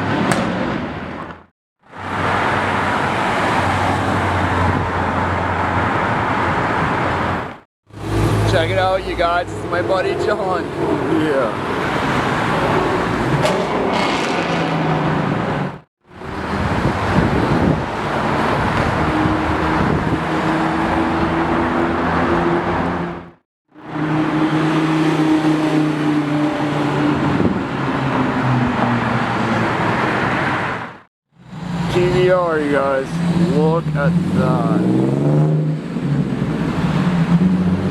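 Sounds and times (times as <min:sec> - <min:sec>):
engine hum: 0:00.0 - 0:37.9
street traffic: 0:00.0 - 0:37.9.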